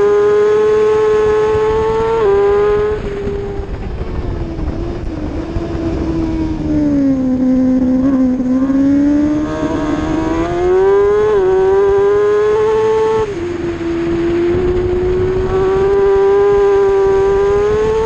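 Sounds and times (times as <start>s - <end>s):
racing motorcycle engine high revs: 0.0s - 18.0s.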